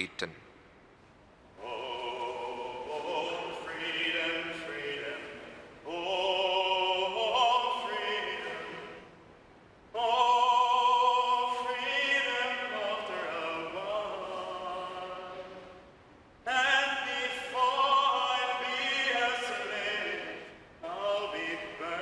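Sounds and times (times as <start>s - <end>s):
person singing church music: 1.5s - 22.0s.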